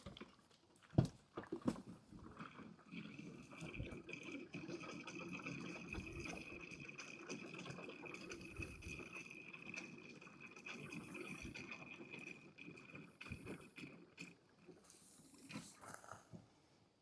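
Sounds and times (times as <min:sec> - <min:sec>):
fuel pouring into a tank: 0:00.0 - 0:15.8.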